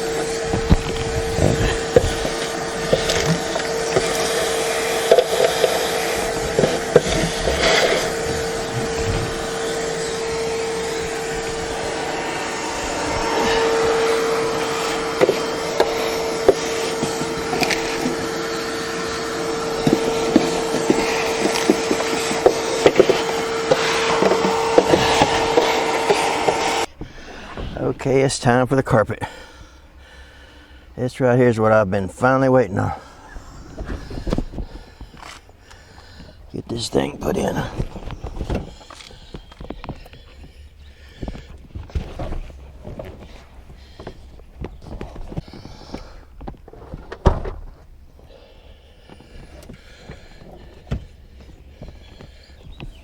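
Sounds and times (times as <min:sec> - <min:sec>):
vacuum cleaner motor whine: 0:00.0 - 0:28.0, 0:32.4 - 0:53.0.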